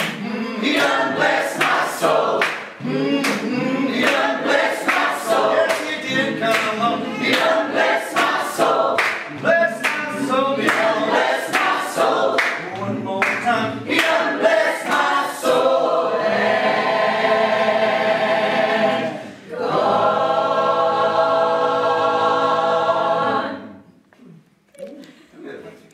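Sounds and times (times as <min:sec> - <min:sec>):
mixed choir singing a cappella: 0:00.0 - 0:23.9.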